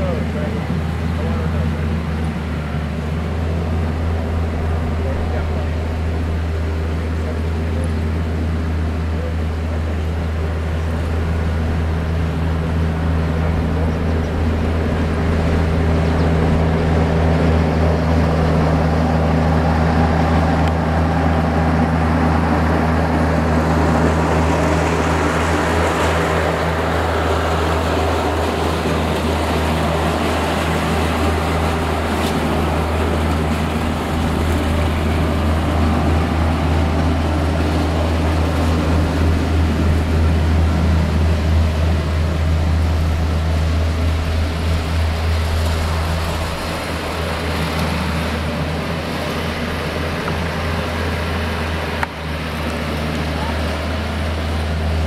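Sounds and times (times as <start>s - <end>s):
low engine-like hum: 0.0s - 55.0s.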